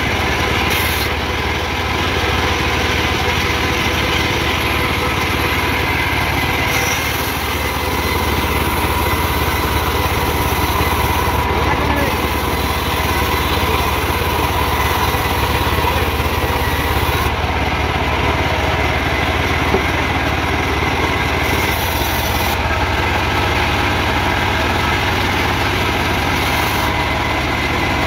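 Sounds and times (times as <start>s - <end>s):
band saw cutting wood: 0.0s - 28.0s.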